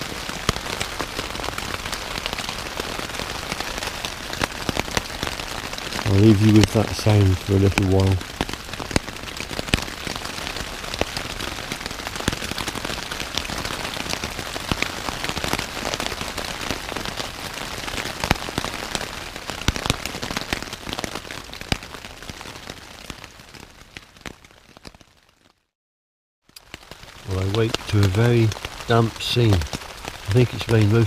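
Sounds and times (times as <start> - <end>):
rain pattering on tent fabric: 0.0 - 25.7, 26.4 - 31.0.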